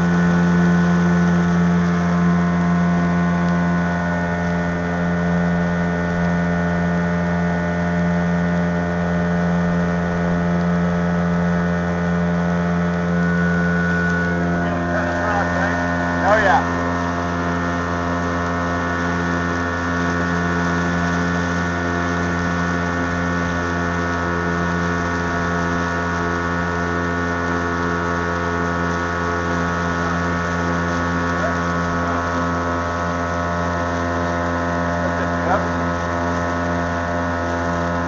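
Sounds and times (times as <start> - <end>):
motorboat engine droning: 0.0 - 38.0.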